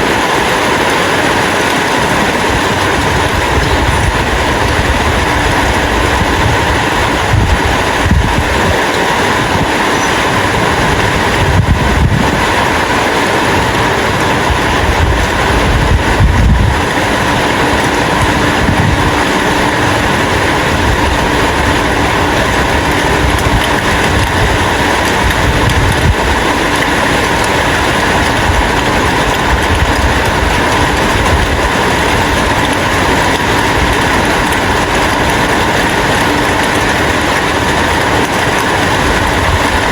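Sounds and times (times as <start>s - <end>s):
heavy rain falling: 0.0s - 39.9s
low rumbling: 0.0s - 39.9s.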